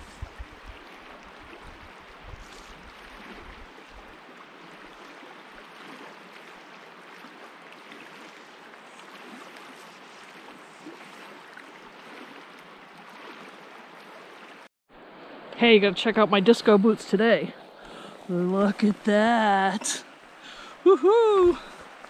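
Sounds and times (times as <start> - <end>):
river water rushing: 0.0 - 16.8, 17.6 - 22.0.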